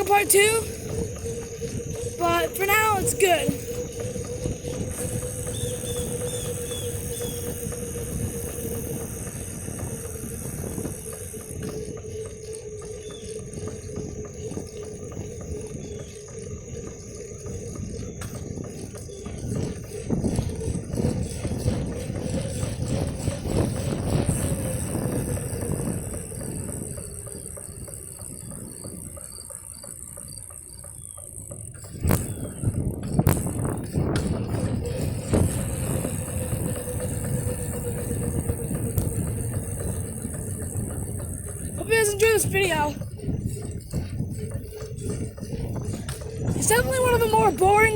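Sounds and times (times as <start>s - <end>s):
bicycle rattling on bumpy road: 0.0s - 47.9s
high-pitched buzz: 0.0s - 47.9s.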